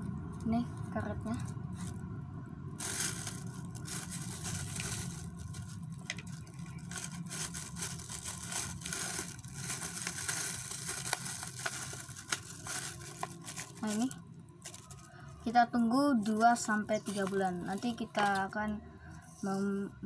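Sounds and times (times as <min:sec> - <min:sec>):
plastic bag crinkling: 0:00.8 - 0:02.0, 0:02.8 - 0:15.5, 0:16.2 - 0:18.6.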